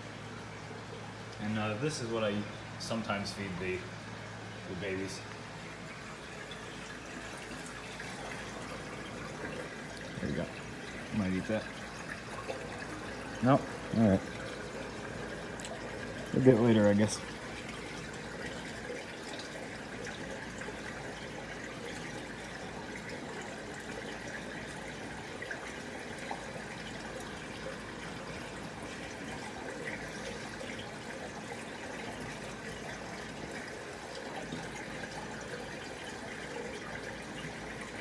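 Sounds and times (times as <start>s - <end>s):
aquarium water trickling: 0.0s - 38.0s.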